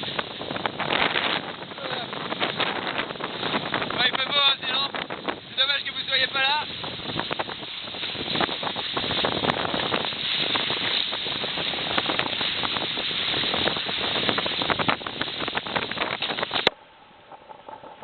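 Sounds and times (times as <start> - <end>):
rushing water and spray: 0.0 - 16.8
wind buffeting microphone: 0.0 - 18.0.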